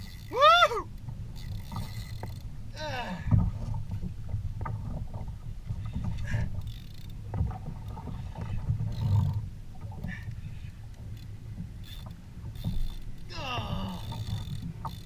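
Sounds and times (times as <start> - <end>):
water and wind rumble: 0.0 - 15.0.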